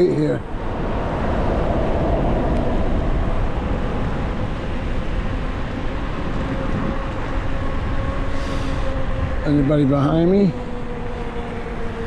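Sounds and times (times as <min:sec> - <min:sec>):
road rumble: 0:00.0 - 0:12.0
wind noise: 0:00.0 - 0:12.0.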